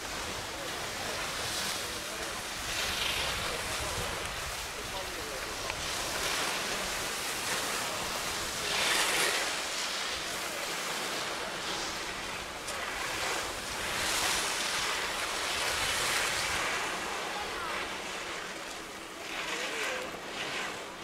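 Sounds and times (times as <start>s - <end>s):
skis scraping over hard snow: 0.0s - 18.3s.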